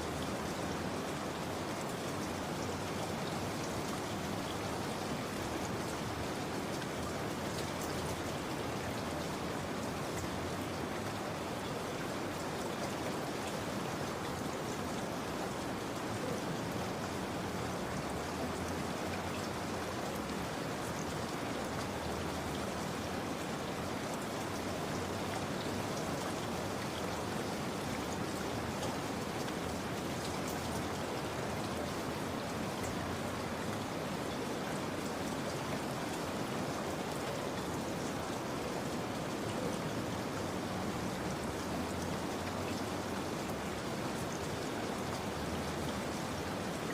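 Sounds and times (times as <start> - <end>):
steady rainfall: 0.0 - 46.9.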